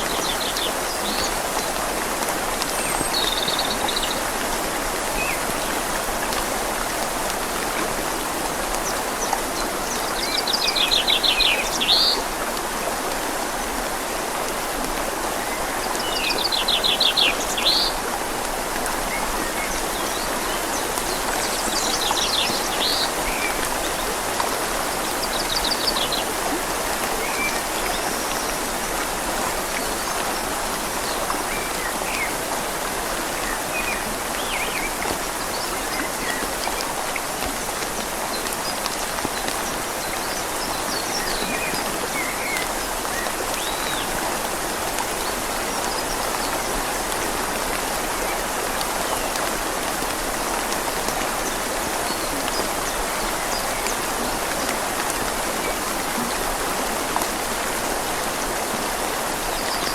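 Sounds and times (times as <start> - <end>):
rain falling on leaves: 0.0 - 59.9
river flowing: 0.0 - 59.9.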